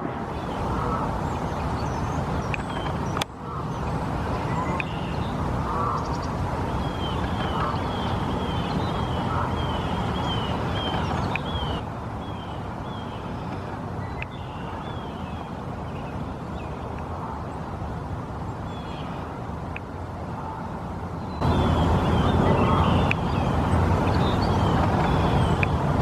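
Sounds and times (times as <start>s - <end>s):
bird calling: 0.4s - 16.8s, 21.3s - 25.8s.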